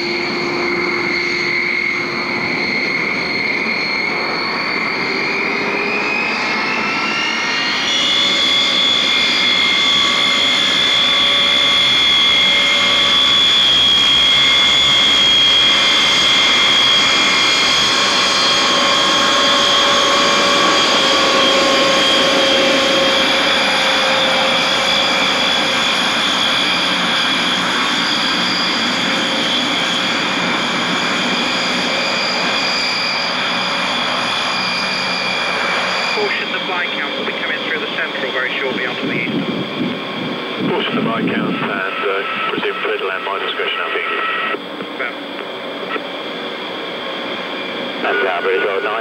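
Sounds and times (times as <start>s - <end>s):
turboprop engines whining: 0.0s - 49.0s.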